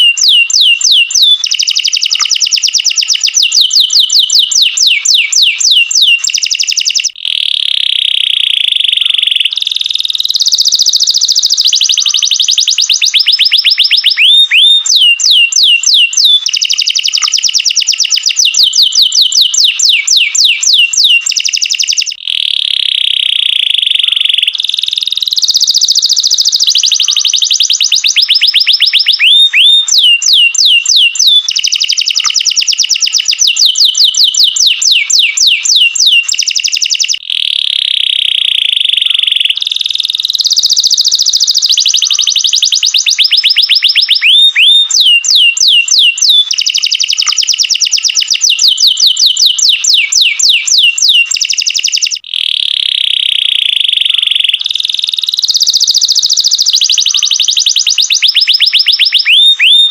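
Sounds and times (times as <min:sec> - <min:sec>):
canary singing in trills: 0:00.0 - 0:59.9.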